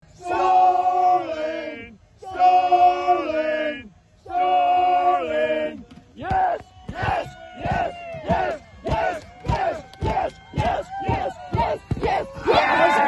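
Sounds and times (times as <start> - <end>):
crowd chanting in unison: 0.1 - 13.0
crowd yelling: 0.2 - 13.0.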